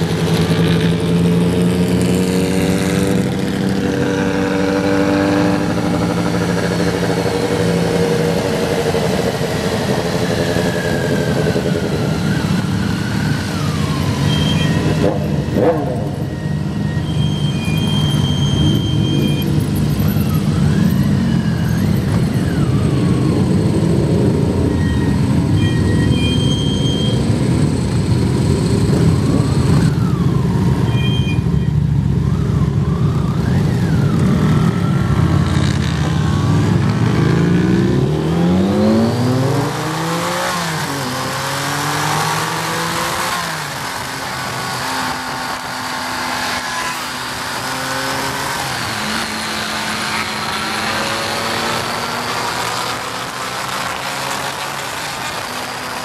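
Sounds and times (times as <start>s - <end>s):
motorcycle engines at low pace: 0.0s - 56.0s.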